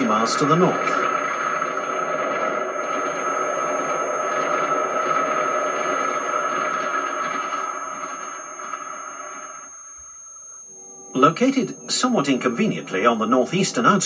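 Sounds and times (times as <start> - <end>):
high-pitched locomotive whine: 0.0 - 14.0.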